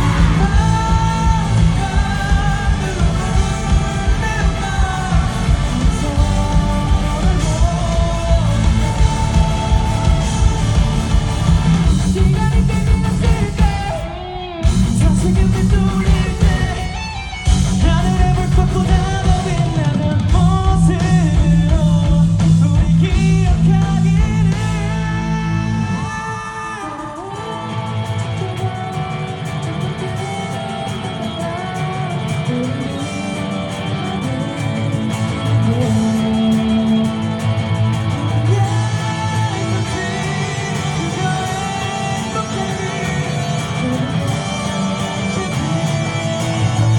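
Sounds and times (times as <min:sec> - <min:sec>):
live rock band: 0:00.0 - 0:46.9
person singing lead vocal: 0:00.0 - 0:46.9.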